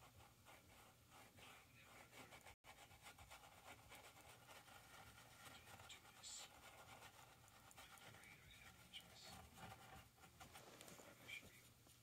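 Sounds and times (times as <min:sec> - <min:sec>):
paintbrush scratching on canvas: 0:00.0 - 0:12.0.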